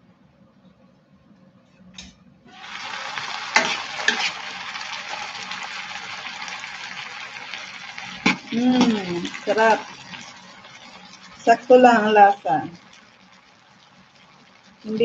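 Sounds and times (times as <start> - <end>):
food sizzling in a pan: 2.5 - 15.0.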